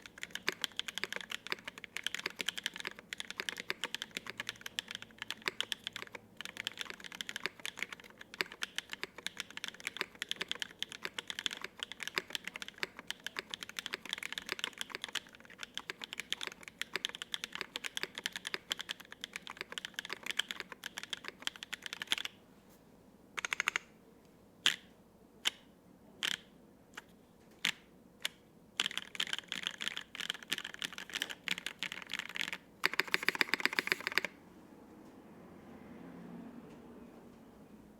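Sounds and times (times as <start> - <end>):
mechanical keyboard typing: 0.0 - 22.4, 23.4 - 23.9, 26.2 - 34.4.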